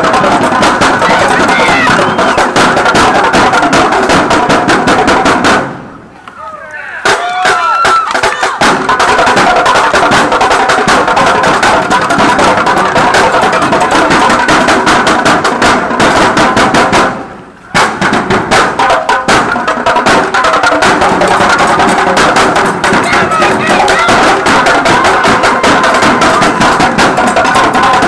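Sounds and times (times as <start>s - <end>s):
drumline playing fast beat: 0.0s - 6.0s, 7.0s - 28.0s.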